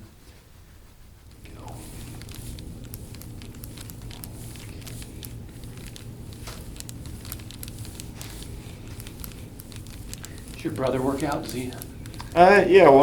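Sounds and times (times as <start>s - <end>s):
low steady hum: 0.0s - 13.0s
hands crinkling over skin: 1.3s - 13.0s.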